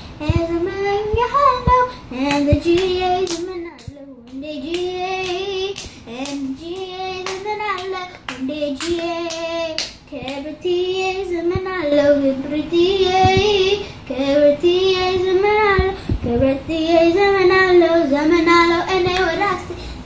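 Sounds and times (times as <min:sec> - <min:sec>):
girl singing: 0:00.0 - 0:20.0.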